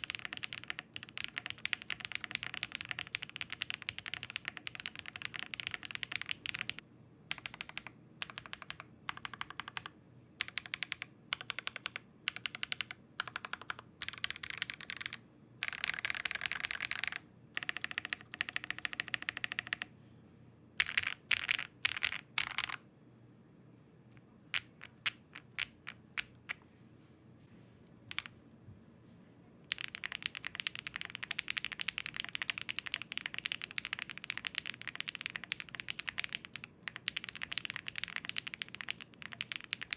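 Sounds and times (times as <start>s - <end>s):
mechanical keyboard typing: 0.0s - 19.9s, 20.8s - 22.8s, 24.5s - 26.6s, 28.1s - 28.3s, 29.7s - 39.9s.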